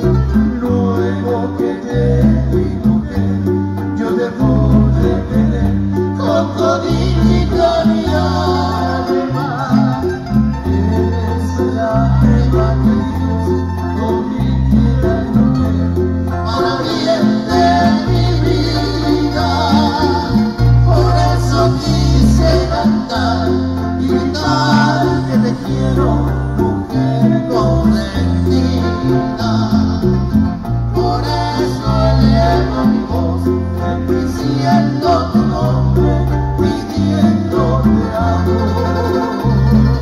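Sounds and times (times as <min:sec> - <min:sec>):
bass line: 0:00.0 - 0:40.0
guitars strummed and picked: 0:00.0 - 0:40.0
person singing: 0:00.0 - 0:40.0.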